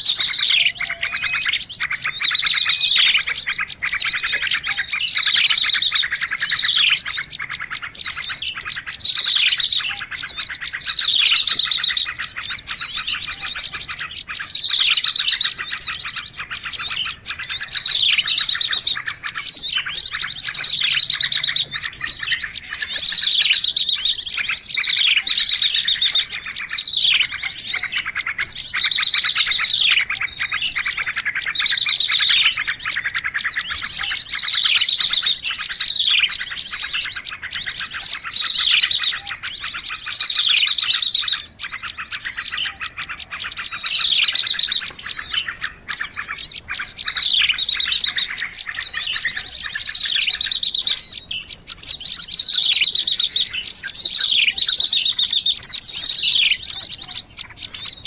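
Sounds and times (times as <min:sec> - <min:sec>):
falling whistled bird calls: 0:00.0 - 0:58.0
songbirds chirping and trilling: 0:00.0 - 0:58.0.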